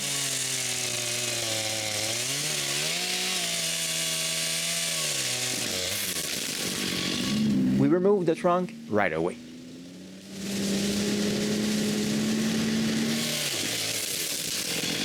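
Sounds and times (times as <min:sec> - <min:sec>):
chainsaw cutting tree trunk: 0:00.0 - 0:15.0.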